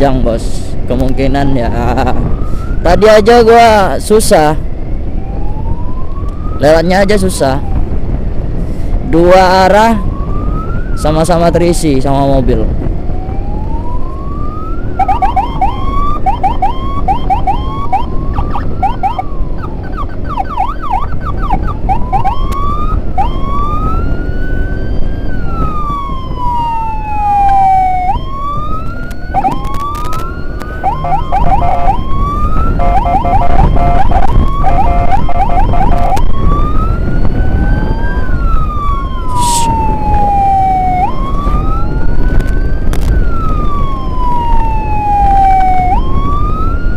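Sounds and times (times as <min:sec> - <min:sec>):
engine and road noise: 0:00.0 - 0:46.9
electronic siren wailing and yelping: 0:01.8 - 0:04.5, 0:05.2 - 0:07.9, 0:13.0 - 0:46.9.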